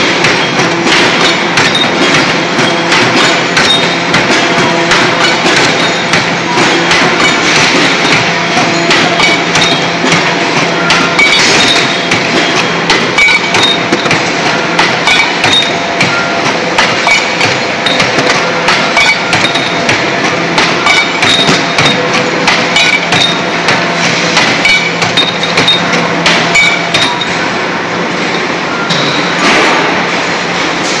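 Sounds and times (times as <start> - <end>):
machine humming: 0.0 - 31.0
metal clanks and knocks: 0.0 - 31.0.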